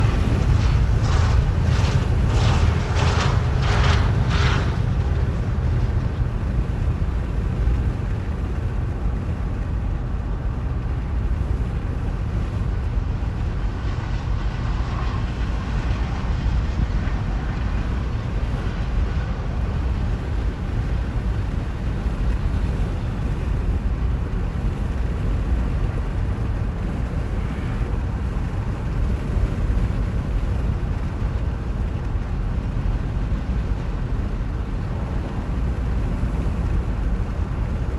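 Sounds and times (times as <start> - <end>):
train rumbling: 0.0 - 37.9.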